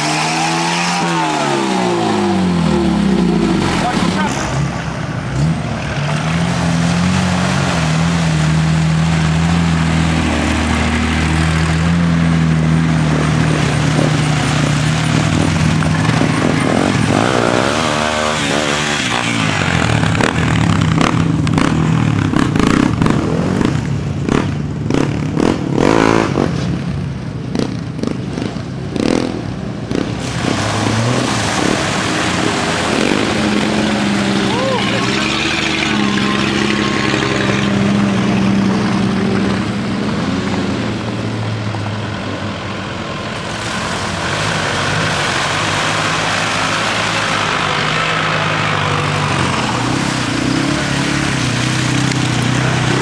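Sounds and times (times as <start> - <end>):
off-road vehicle engines running: 0.0 - 53.0.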